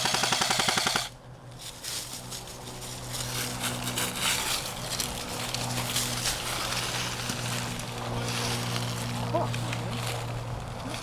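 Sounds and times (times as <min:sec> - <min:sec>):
steady low hum: 0:00.0 - 0:11.0
footsteps crunching dry leaves: 0:01.6 - 0:11.0.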